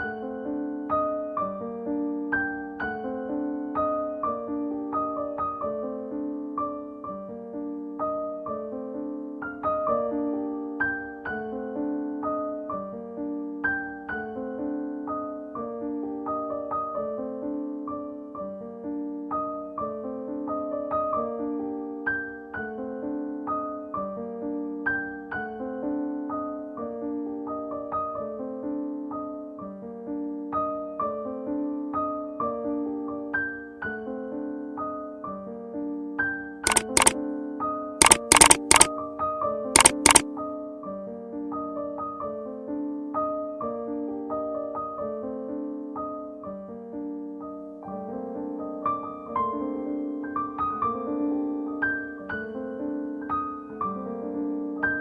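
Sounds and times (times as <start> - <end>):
gentle piano melody: 0.0 - 36.5, 41.5 - 55.0.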